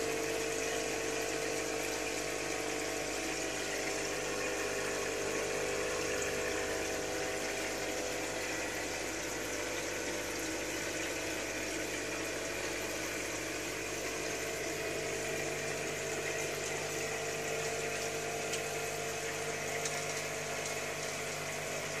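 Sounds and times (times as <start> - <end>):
aquarium pump humming: 0.0 - 22.0
water bubbling: 0.3 - 22.0.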